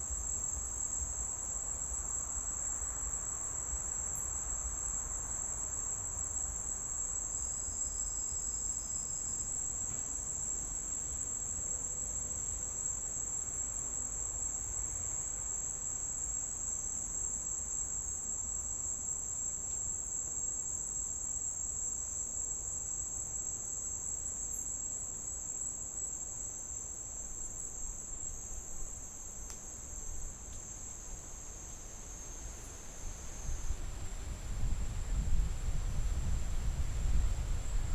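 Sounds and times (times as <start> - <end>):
insect chorus high buzz: 0.0 - 37.9.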